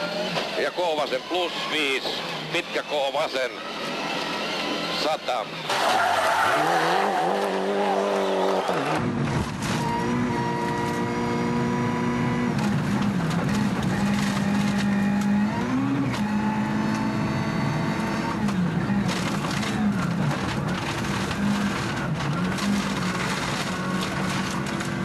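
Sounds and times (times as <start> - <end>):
rally car engine from inside cabin: 1.6 - 25.0.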